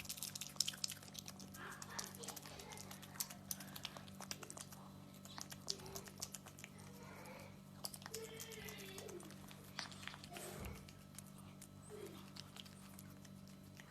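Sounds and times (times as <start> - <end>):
small animal chewing crisp food: 0.0 - 13.9
steady low hum: 0.0 - 13.9.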